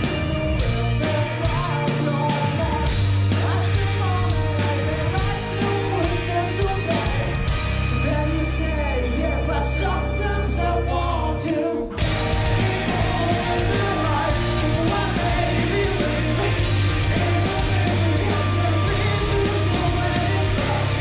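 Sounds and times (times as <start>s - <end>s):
heavy rock band playing: 0.0s - 21.0s
person singing: 0.0s - 21.0s.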